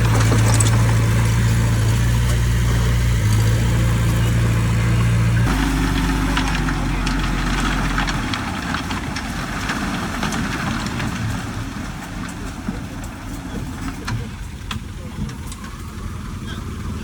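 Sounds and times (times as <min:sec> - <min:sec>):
metal clanks: 0:00.0 - 0:16.0
heavy diesel engine rumbling: 0:00.0 - 0:17.0.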